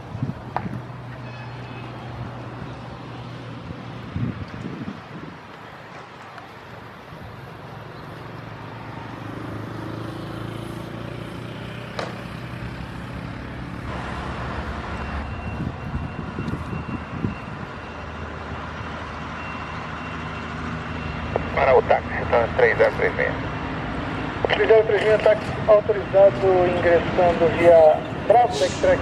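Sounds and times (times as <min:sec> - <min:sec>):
jet engines humming: 0:00.0 - 0:29.0.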